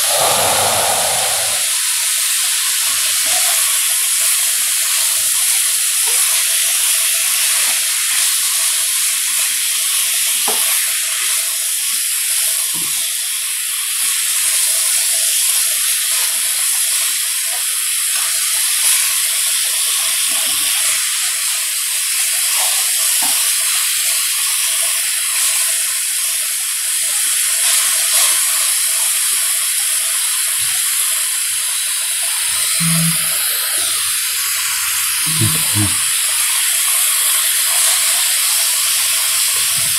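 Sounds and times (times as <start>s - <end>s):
meat sizzling on a griddle: 3.5s - 35.4s, 36.1s - 39.9s.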